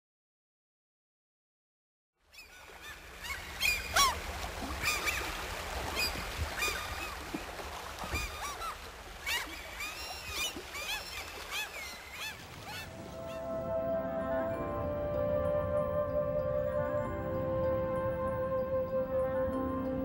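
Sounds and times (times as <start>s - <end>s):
waterbirds calling: 2.2s - 20.0s.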